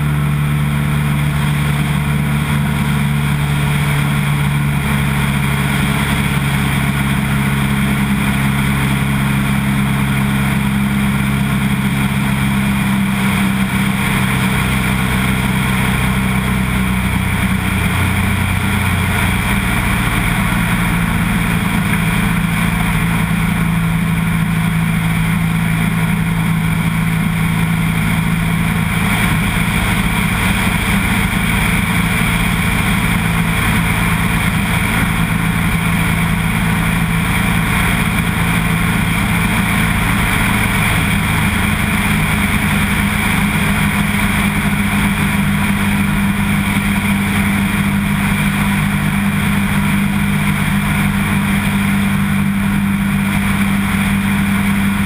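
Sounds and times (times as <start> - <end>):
plane engine and propeller droning: 0.0 - 55.0.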